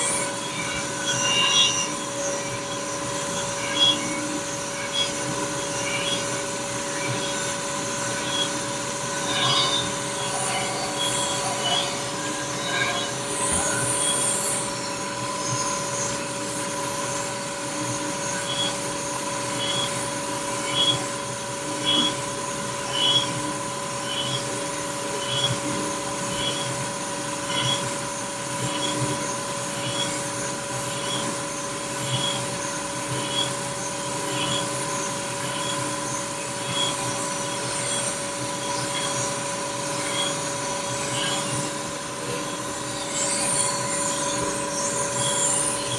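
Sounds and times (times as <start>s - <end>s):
machine tool motor whine: 0.0s - 45.9s.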